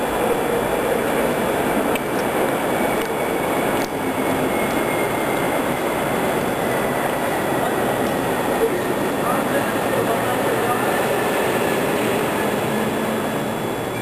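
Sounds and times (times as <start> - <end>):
indoor hall rushing noise: 0.0 - 14.0.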